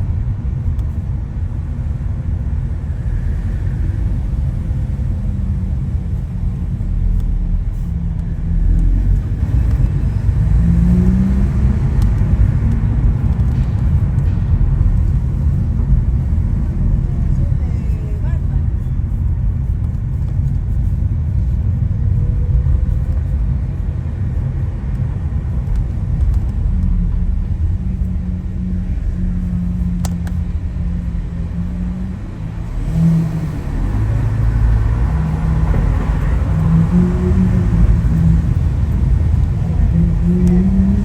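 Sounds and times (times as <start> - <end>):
car engine low rumble: 0.0 - 41.0.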